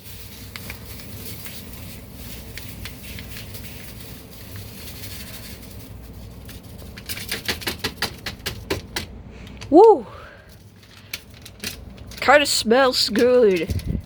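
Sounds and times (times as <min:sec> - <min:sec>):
packet rustling and crackling: 0:00.0 - 0:09.8, 0:10.4 - 0:14.0.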